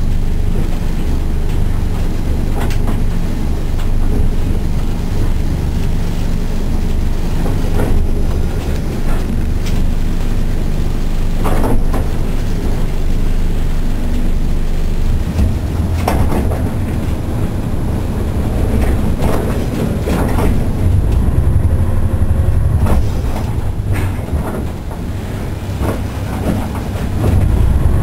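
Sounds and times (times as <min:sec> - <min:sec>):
railcar engine drone: 0:00.0 - 0:28.0.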